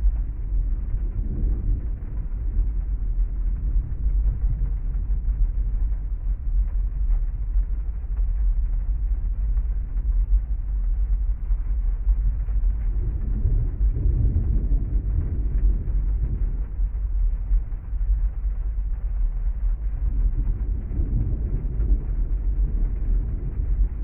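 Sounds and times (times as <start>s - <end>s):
heavy rain rumble: 0.0s - 24.0s
raindrops crackling: 0.0s - 24.0s.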